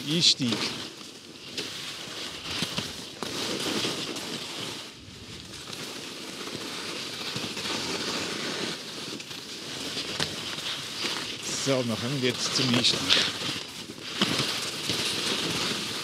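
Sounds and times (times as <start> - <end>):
skis scraping over crusted snow: 0.0 - 16.0.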